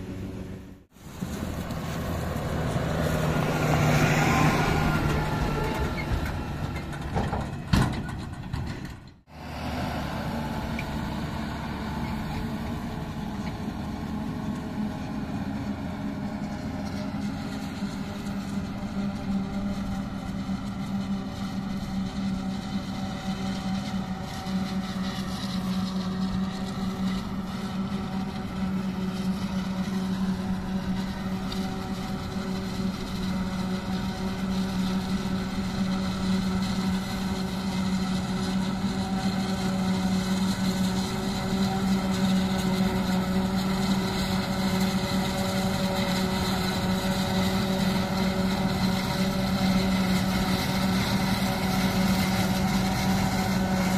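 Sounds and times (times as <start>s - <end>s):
farm machines droning: 0.0s - 53.9s.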